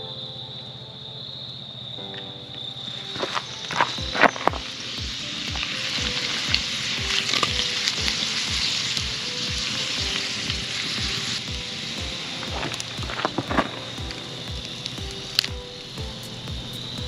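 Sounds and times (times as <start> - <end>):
food sizzling in a skillet: 3.1 - 17.0.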